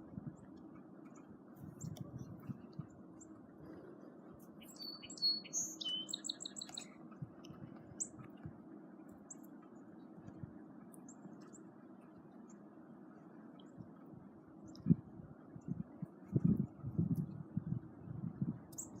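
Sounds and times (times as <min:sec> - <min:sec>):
low rushing hum: 0:00.0 - 0:19.0
songbird singing and chirping: 0:00.2 - 0:19.0.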